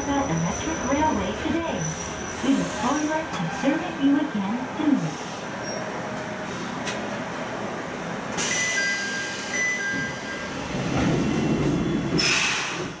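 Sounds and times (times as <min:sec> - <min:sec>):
train braking to a stop: 0:00.0 - 0:03.8, 0:05.0 - 0:07.0, 0:08.3 - 0:13.0.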